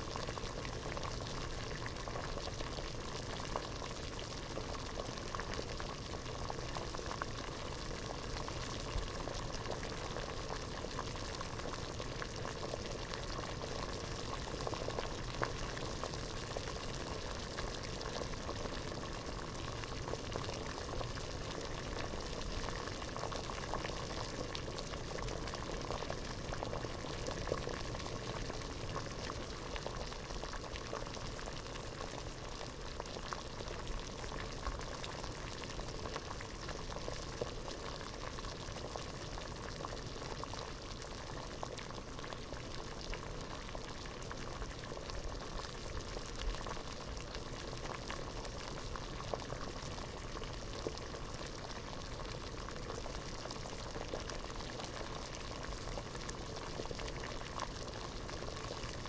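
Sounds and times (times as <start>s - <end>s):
water boiling in a pot: 0.0s - 59.0s.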